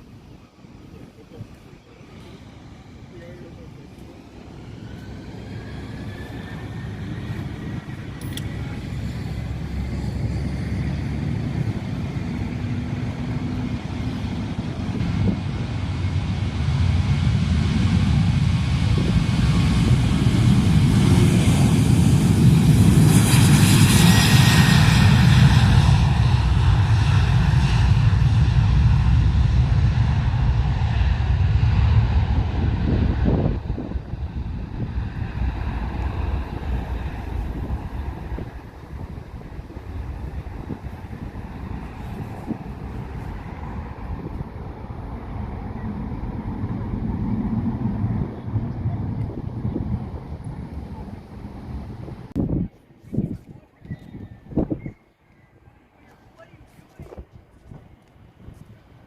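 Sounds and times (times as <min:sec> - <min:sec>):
airliner engines passing: 0:00.0 - 0:59.0.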